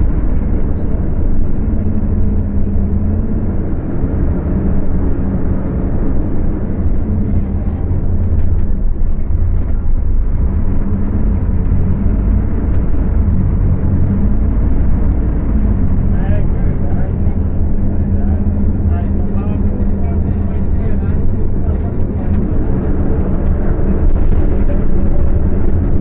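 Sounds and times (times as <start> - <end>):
bus engine droning: 0.0 - 26.0.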